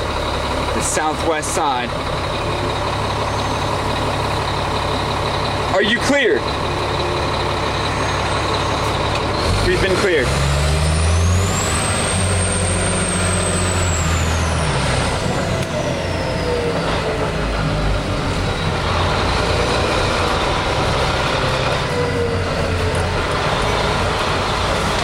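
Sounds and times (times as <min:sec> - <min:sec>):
diesel truck engine: 0:00.0 - 0:25.0.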